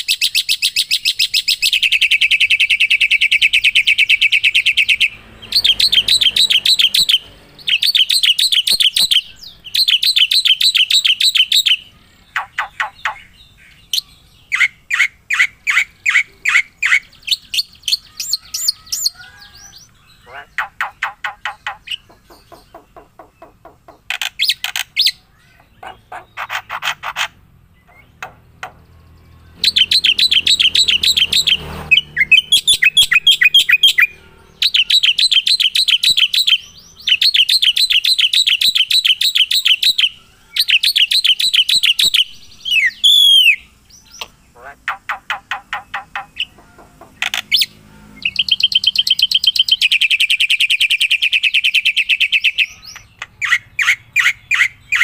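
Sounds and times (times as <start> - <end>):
songbird trilling and chirping: 0.0 - 55.0.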